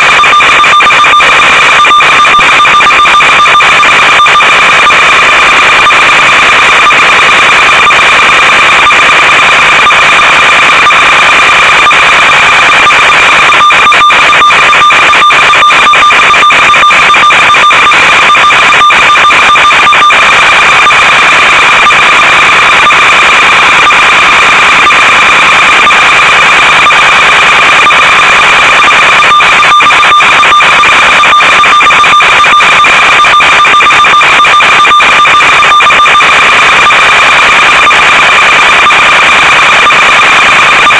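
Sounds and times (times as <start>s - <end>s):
static crackling: 0.0s - 40.9s.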